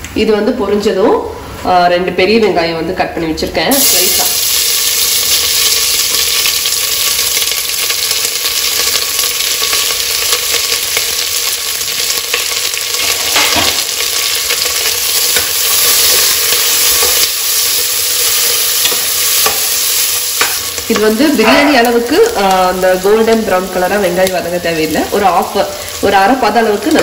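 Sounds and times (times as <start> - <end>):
onions sizzling in oil: 3.7 - 27.0.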